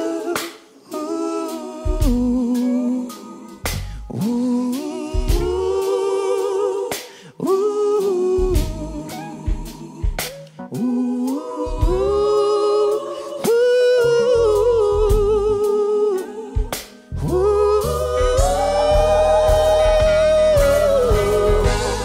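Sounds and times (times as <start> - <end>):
backing singers: 0.0 - 22.0
lead singer holding notes: 0.0 - 22.0
live soul-rock band: 0.0 - 22.0.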